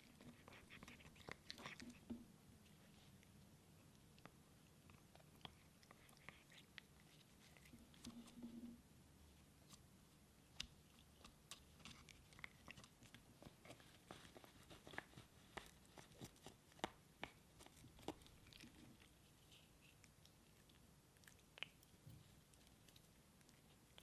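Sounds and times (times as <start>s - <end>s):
cat chewing: 0.0s - 8.7s, 10.4s - 24.0s.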